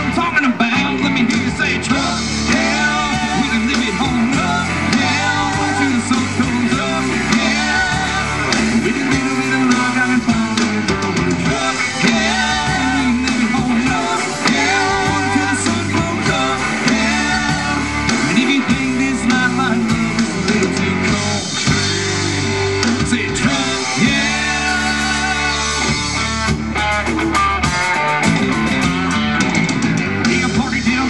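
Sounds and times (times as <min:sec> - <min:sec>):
man singing lead vocal: 0:00.0 - 0:26.3, 0:30.2 - 0:31.0
country rock band playing: 0:00.0 - 0:31.0.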